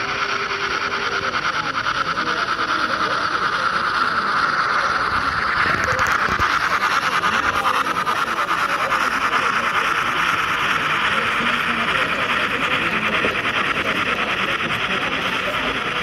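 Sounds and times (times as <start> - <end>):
model train running with ticking: 0.0 - 16.0.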